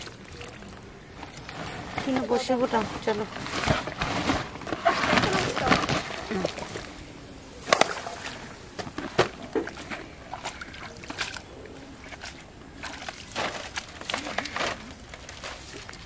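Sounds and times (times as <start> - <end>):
water sloshing in a tub: 0.0 - 16.0.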